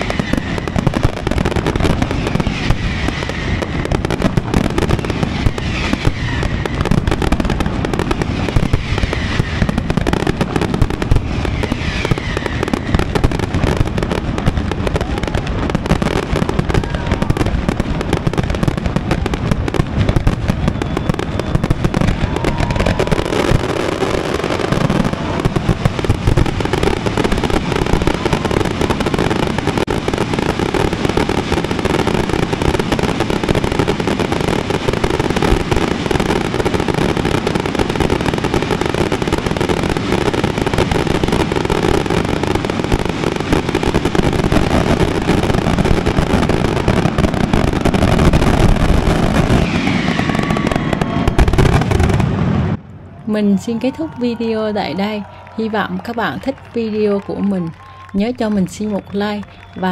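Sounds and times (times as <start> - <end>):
firework bangs and crackling: 0.0 - 59.9
whistling fireworks: 0.0 - 59.9.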